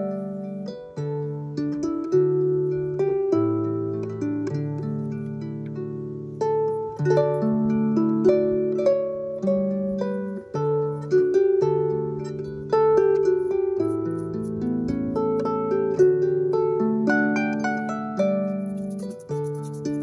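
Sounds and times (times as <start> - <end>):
gently plucked strings melody: 0.0 - 20.0.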